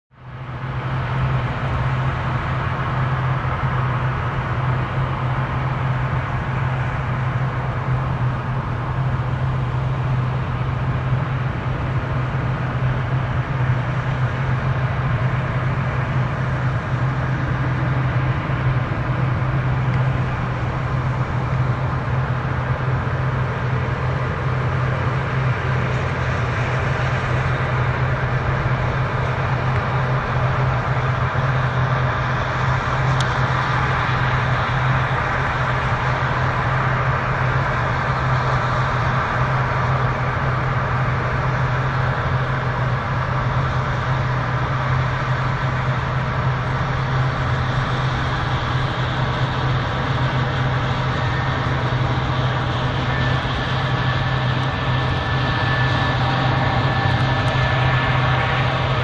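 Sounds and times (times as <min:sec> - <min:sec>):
jet airliner engines droning: 0:00.1 - 0:59.0.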